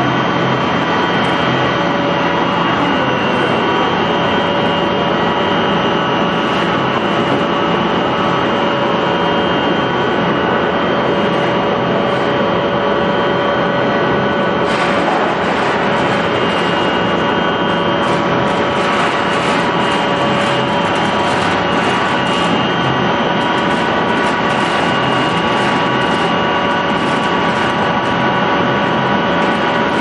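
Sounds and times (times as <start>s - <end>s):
pellet mill machine noise: 0.0s - 30.0s
steady machine whining tones: 0.0s - 30.0s.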